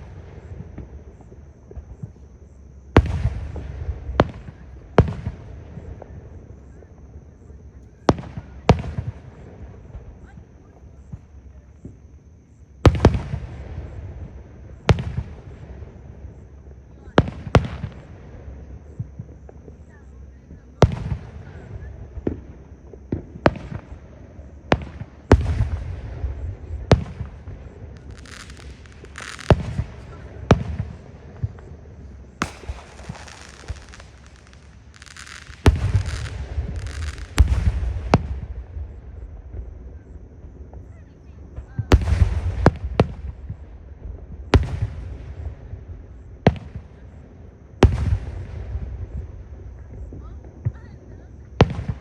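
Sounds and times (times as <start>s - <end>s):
fireworks booming: 0.0s - 7.0s, 12.7s - 16.6s, 17.2s - 40.9s, 41.5s - 47.0s, 47.8s - 52.0s
crackling fizz of fireworks: 0.0s - 52.0s.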